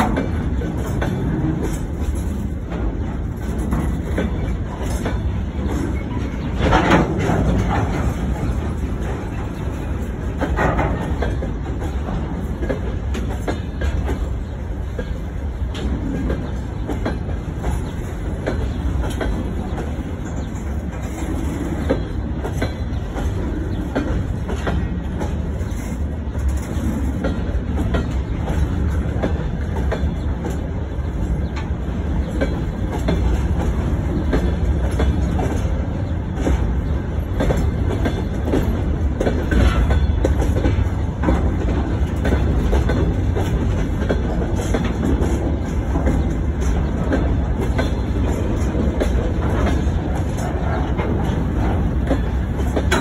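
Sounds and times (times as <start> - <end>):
train wheels rumbling on rail: 0.0 - 53.0
wheels clicking over rail joints: 0.0 - 53.0.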